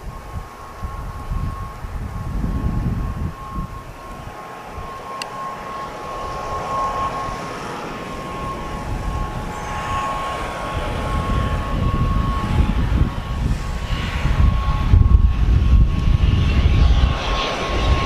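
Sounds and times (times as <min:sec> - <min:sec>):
low rumble: 0:00.0 - 0:18.0
turboprop engine whine: 0:00.0 - 0:18.0.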